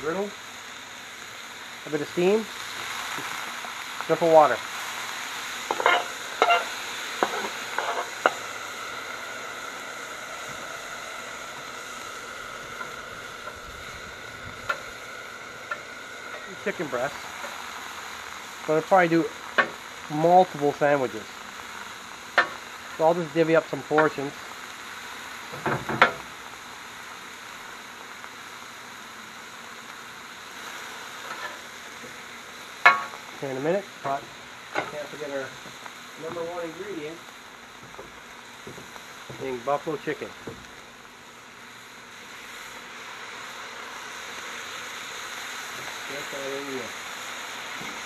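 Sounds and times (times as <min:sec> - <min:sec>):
chicken sizzling hiss: 0:00.0 - 0:48.0.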